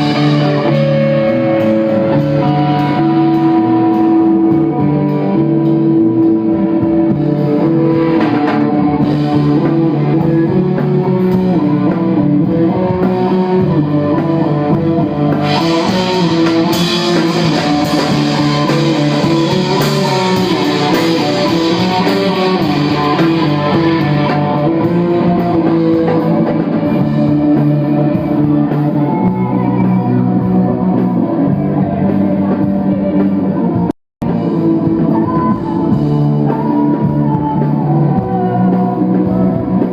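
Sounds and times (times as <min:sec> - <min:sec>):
bass guitar: 0:00.0 - 0:39.9
drum kit: 0:00.0 - 0:39.9
electric guitars ringing: 0:00.0 - 0:39.9.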